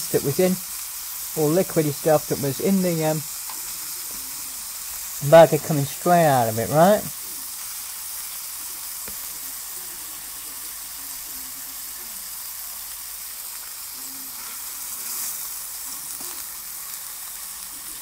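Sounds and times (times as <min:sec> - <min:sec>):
burgers sizzling in a frying pan: 0:00.0 - 0:18.0.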